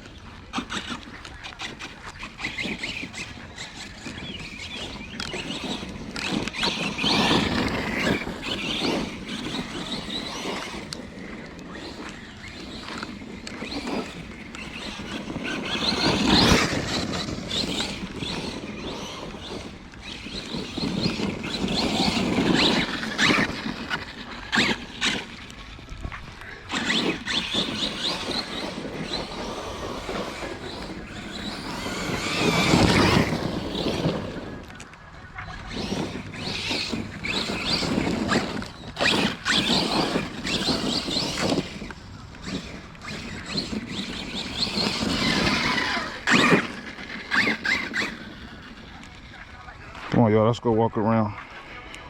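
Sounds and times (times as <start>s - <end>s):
electric motor whining: 0.0s - 50.2s.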